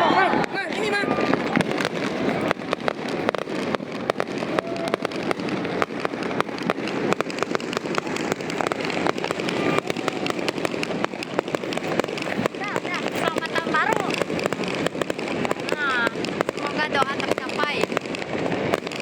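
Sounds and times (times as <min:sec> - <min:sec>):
background hubbub: 0:00.0 - 0:19.0
fireworks popping and crackling: 0:00.0 - 0:19.0.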